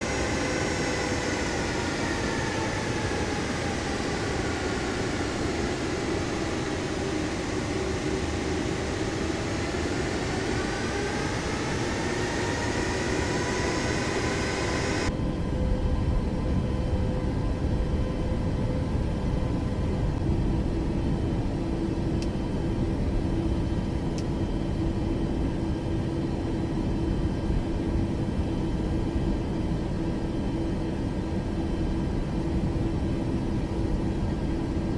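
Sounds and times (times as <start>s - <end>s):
jet airliner engines whining: 0.0s - 34.9s.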